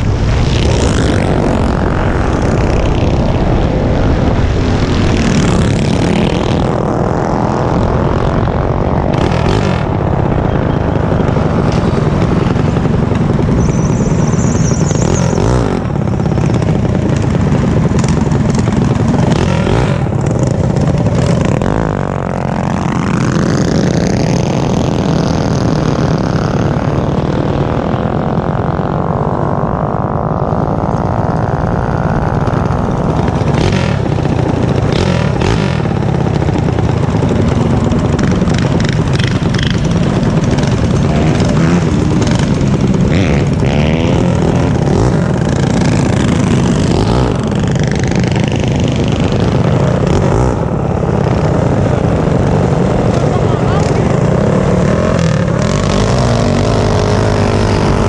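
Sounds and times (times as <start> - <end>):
mini bike engines running: 5.0 - 58.0.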